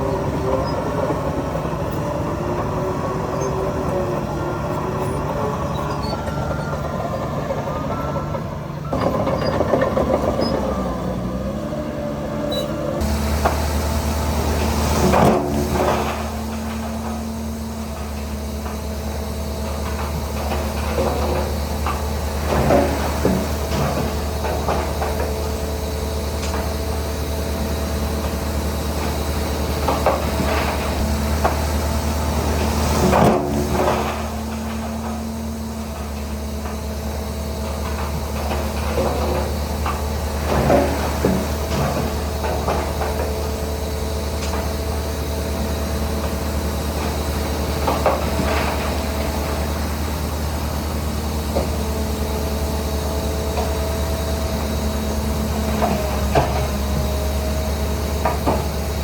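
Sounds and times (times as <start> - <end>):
metallic clanks from tracks: 0.0 - 11.6, 12.5 - 59.0
bulldozer diesel engine running: 0.0 - 59.0.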